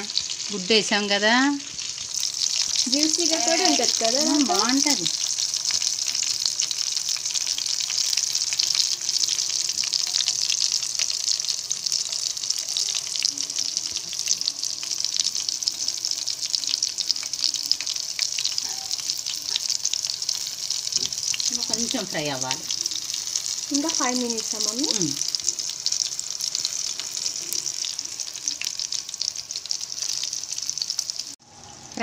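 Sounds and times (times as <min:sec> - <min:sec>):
fish frying in hot oil: 0:00.0 - 0:32.0.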